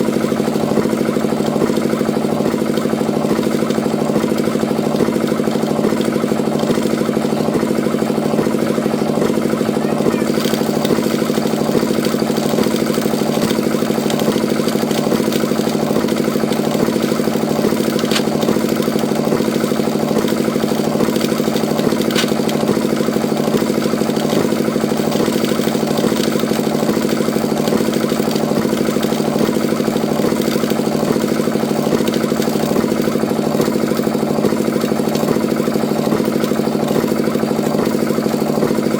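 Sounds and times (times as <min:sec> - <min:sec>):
small pump engine running: 0:00.0 - 0:38.9.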